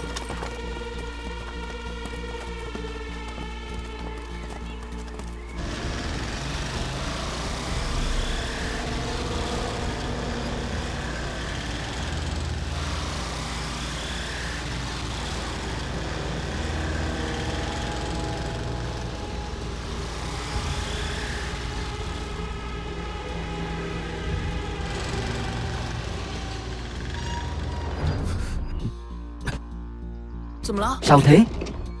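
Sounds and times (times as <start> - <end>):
vehicle engine running: 0.0 - 30.3.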